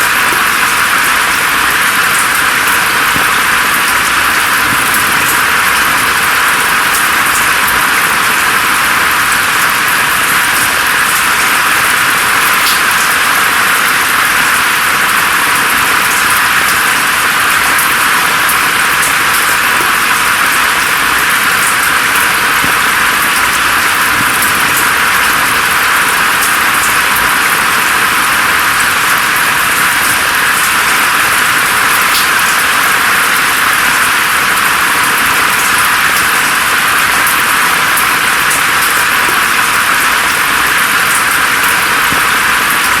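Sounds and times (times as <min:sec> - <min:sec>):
rainfall hiss: 0:00.0 - 0:43.0.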